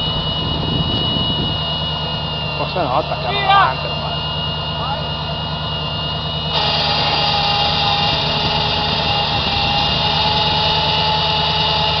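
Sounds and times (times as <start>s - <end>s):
buggy engine at high revs: 0.0s - 12.0s
steady high whine: 0.0s - 12.0s.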